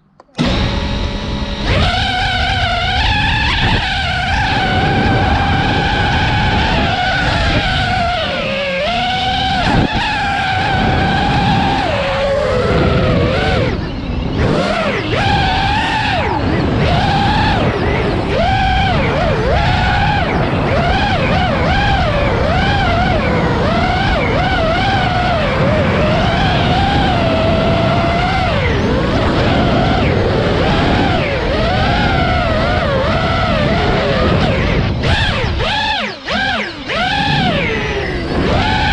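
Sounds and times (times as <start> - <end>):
drone motors whining: 0.0 - 38.9
wind noise: 0.0 - 38.9.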